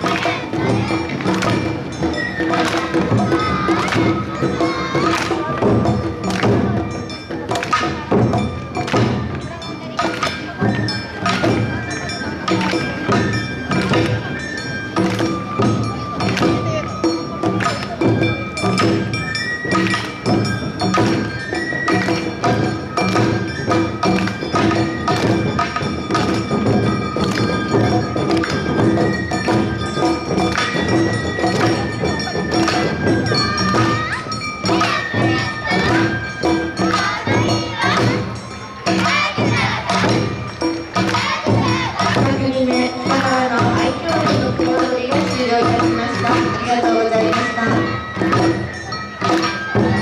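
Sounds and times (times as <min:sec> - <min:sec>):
clanging bell: 0:00.0 - 0:50.0
flute and shamisen melody: 0:00.0 - 0:50.0
steady drum rhythm: 0:00.0 - 0:50.0
voices calling out: 0:00.0 - 0:50.0.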